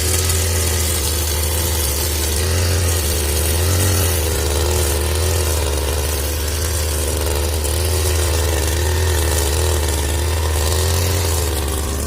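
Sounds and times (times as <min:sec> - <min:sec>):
brush cutter engine running: 0:00.0 - 0:12.0.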